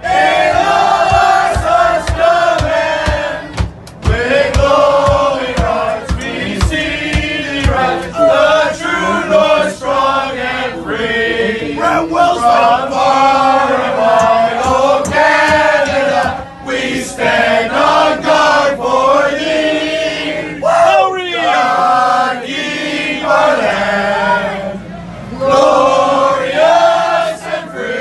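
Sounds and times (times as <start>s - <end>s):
crowd singing and chanting: 0.0s - 28.0s.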